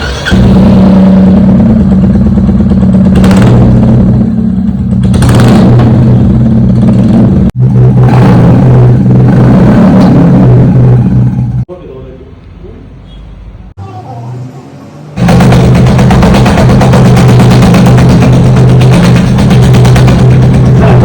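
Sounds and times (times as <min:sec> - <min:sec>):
loud motorcycle engine running: 0:00.0 - 0:11.6, 0:15.2 - 0:21.0.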